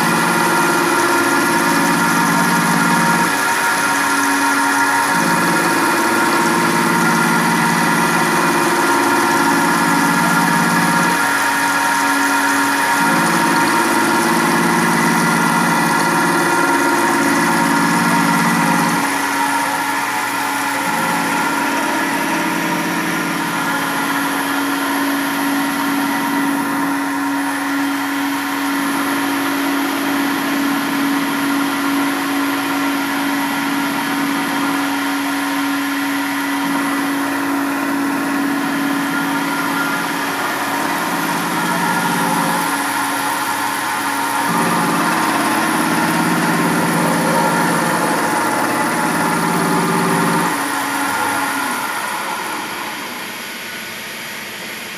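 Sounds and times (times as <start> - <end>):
milling machine cutting metal: 0.0 - 54.9.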